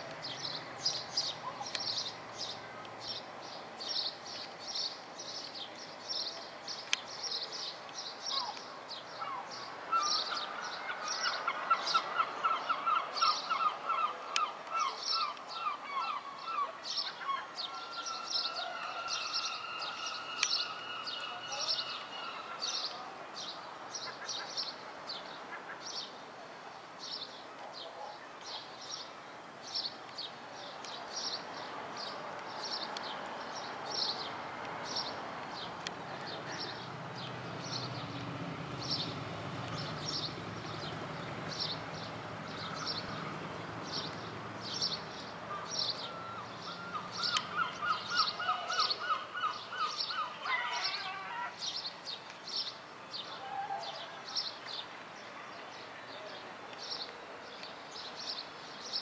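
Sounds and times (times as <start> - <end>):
bird chirping: 0.2 - 26.1, 29.7 - 54.9.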